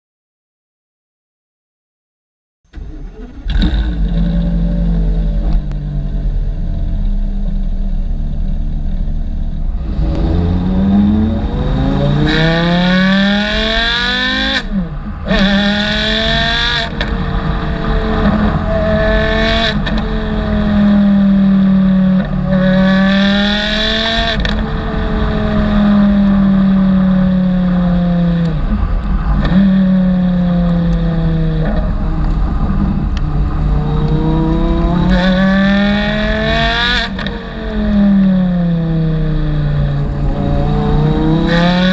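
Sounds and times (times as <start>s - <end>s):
sports car engine accelerating: 2.7s - 41.9s.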